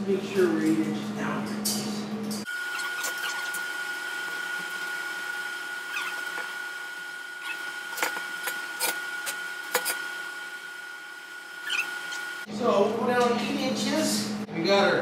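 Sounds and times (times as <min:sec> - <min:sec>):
steady high-pitched whine: 0:02.4 - 0:14.5.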